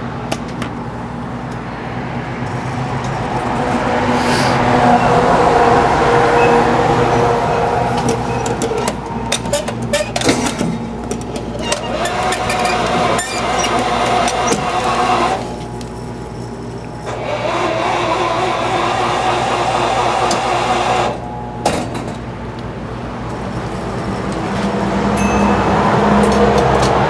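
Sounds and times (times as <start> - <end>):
vending machine humming and whirring: 0.0 - 27.0.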